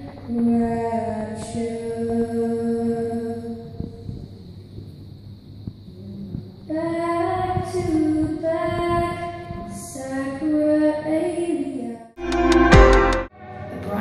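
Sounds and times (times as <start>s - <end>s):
hum: 0.0s - 14.0s.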